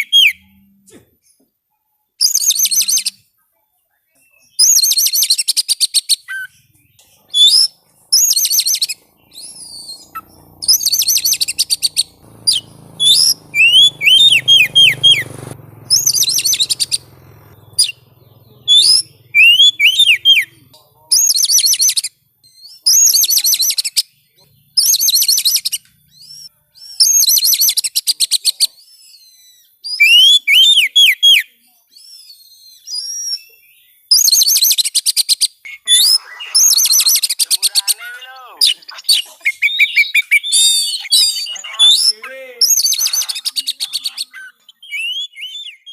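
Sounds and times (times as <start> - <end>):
songbird whistles and chattering: 2.2 - 3.3, 4.2 - 45.9.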